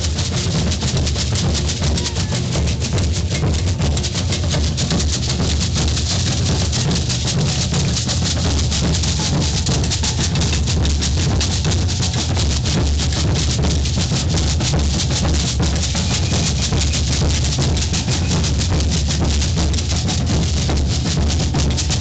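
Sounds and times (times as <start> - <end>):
deep bass drums: 0.0 - 22.0
shakers: 0.0 - 22.0
snare drums: 0.0 - 22.0.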